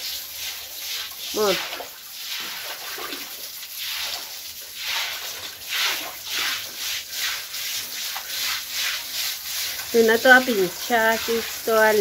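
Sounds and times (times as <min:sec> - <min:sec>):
brush scrubbing wet floor: 0:00.0 - 0:12.0.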